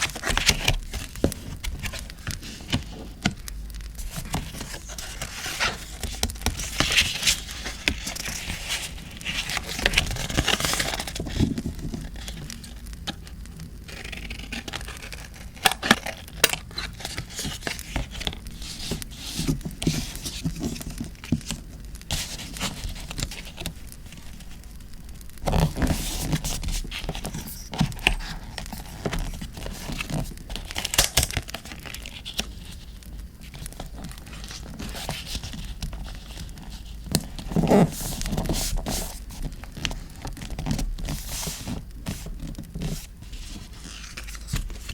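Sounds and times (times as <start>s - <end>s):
paper rustling and tearing: 0.0s - 3.1s, 4.0s - 12.8s, 13.9s - 24.4s, 25.4s - 32.9s, 33.5s - 44.9s.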